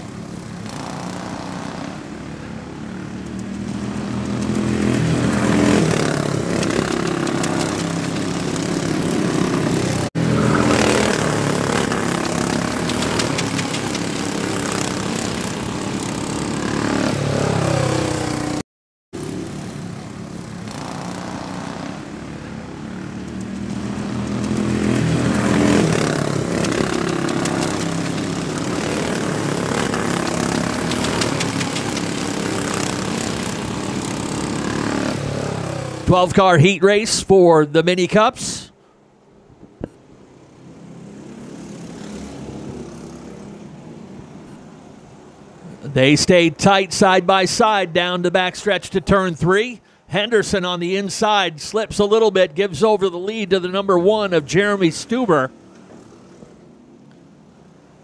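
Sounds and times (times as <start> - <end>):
small race car engines: 0.0 - 18.6, 19.2 - 38.8, 39.8 - 49.6, 50.4 - 58.0.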